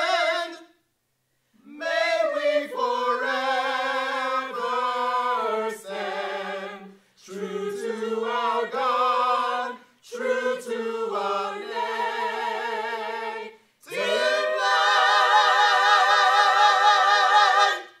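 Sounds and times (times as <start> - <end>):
choir singing a cappella: 0.0 - 0.8, 1.6 - 18.0.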